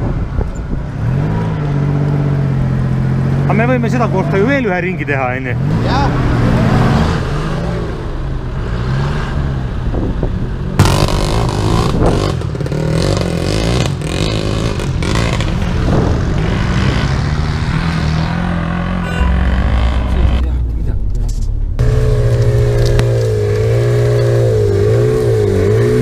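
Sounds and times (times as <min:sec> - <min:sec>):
off-road engines revving in mud: 0:00.9 - 0:20.6, 0:21.8 - 0:26.0.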